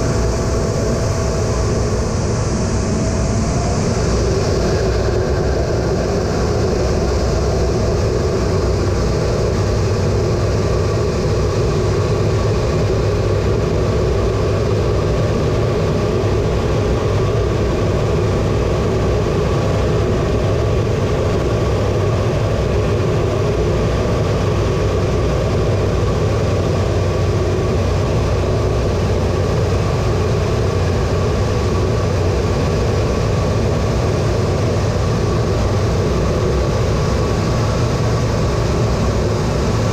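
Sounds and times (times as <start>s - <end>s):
faint steady whine: 0.0s - 39.9s
jet engines droning in cockpit: 0.0s - 39.9s.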